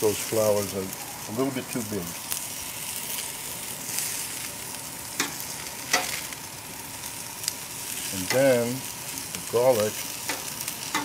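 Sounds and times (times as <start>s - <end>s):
oil flaring up with crackles: 0.0s - 11.0s
vegetables sizzling on a grill: 0.0s - 11.0s.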